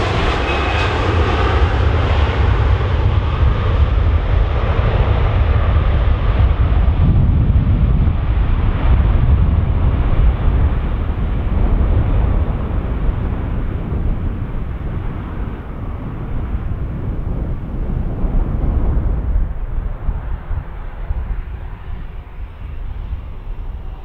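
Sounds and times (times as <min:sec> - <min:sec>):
jet engines low rumble: 0:00.0 - 0:24.0.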